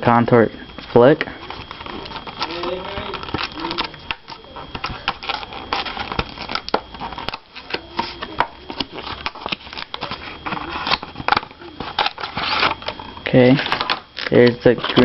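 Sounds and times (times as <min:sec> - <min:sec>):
plastic packaging crinkling and clicking: 0:01.4 - 0:15.0.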